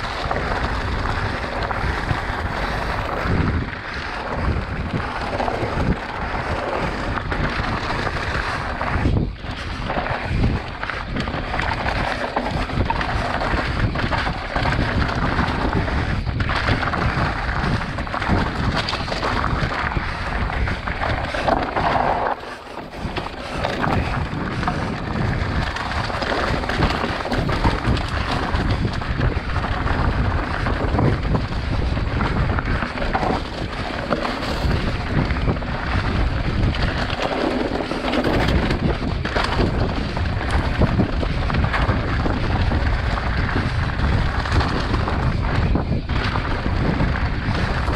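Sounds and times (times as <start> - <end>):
bike rattling over bumps: 0.0 - 47.9
tyres crunching over dirt: 0.0 - 47.9
wind buffeting microphone: 0.0 - 47.9.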